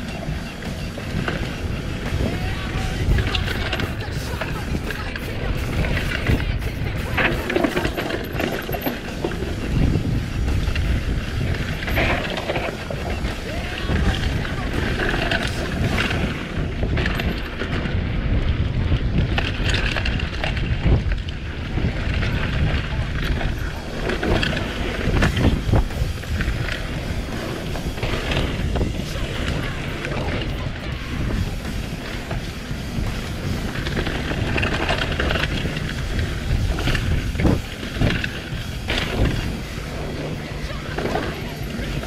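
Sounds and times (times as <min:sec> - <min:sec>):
bike clicking and rattling: 0:00.0 - 0:42.0
tyres rolling on dirt: 0:00.0 - 0:42.0
wind rumbling on microphone: 0:00.0 - 0:42.0.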